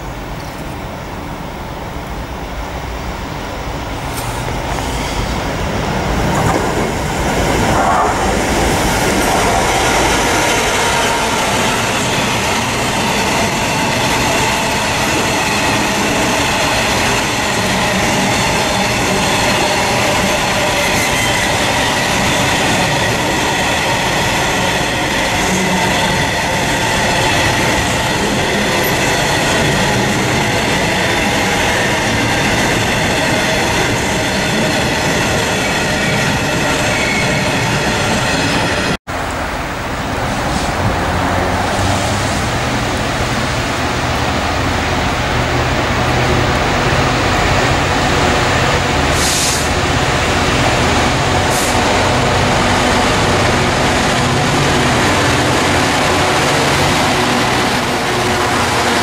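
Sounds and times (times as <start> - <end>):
diesel locomotive passing: 0.0 - 59.0
wheels rumbling on rails: 1.8 - 59.0.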